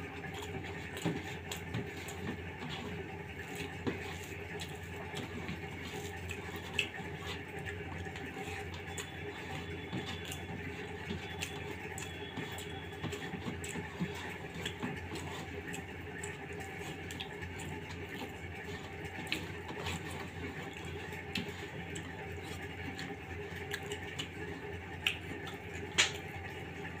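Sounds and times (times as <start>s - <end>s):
steady low hum: 0.0s - 27.0s
chewing sounds: 0.2s - 26.2s.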